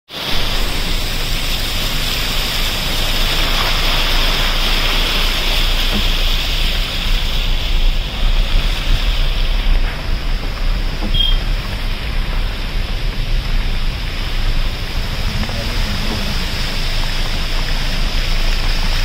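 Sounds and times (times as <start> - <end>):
floodwater rushing: 0.1 - 19.0.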